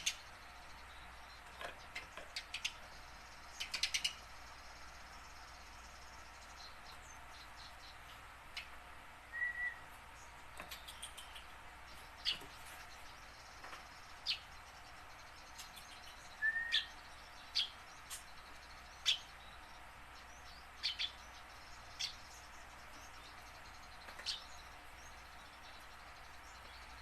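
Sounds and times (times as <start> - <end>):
sparrow chirping: 0.0 - 27.0.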